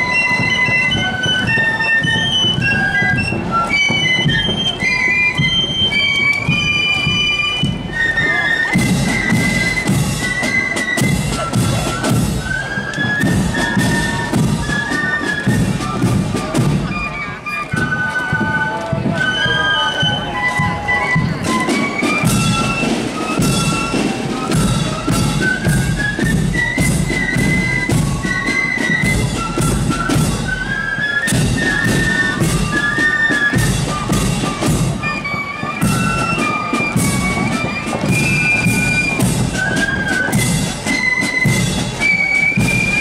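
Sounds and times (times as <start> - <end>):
marching band playing: 0.0 - 43.0.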